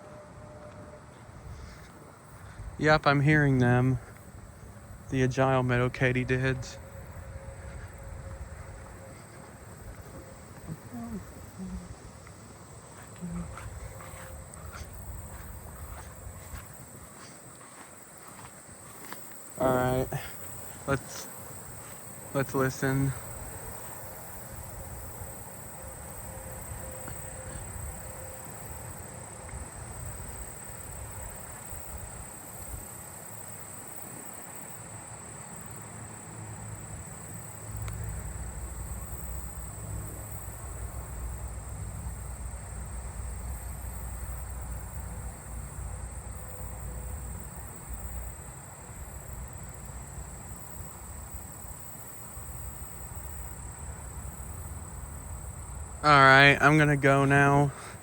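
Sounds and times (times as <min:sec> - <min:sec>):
insects trilling and buzzing: 0:00.0 - 0:58.0.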